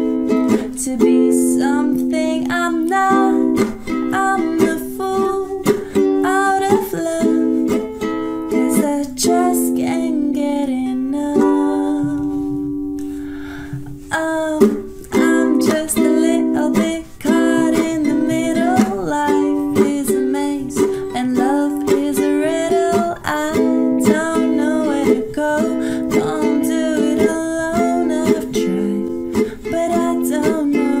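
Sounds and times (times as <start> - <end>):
ukulele strumming: 0.0 - 31.0
woman singing pop song: 0.0 - 31.0.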